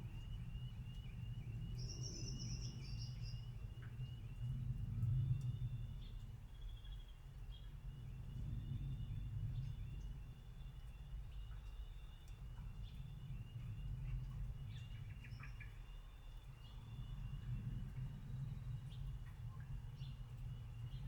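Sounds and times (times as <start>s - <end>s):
soft rain: 0.0s - 21.0s.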